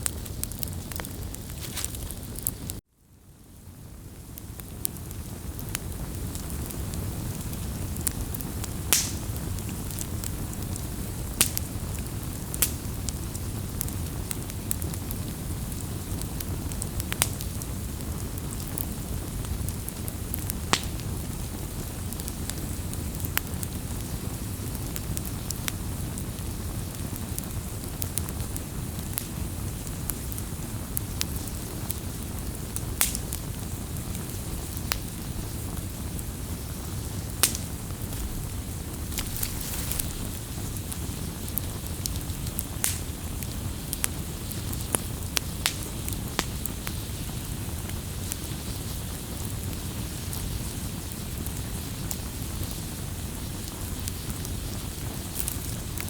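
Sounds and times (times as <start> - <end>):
bonfire crackling and popping: 0.0 - 2.8, 3.5 - 56.0.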